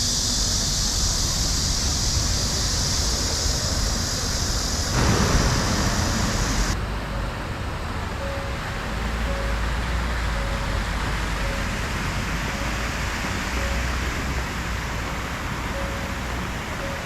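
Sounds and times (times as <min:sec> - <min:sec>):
high hiss: 0:00.0 - 0:06.8, 0:08.2 - 0:17.0
city traffic: 0:00.0 - 0:17.0.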